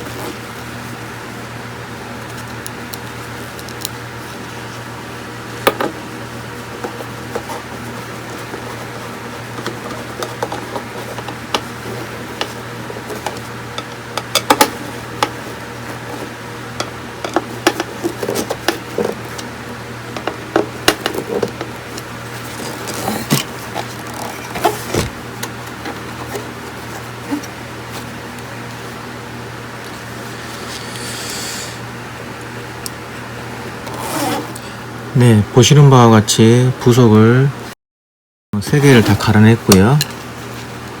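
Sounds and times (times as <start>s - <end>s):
steady low hum: 0.0s - 37.7s.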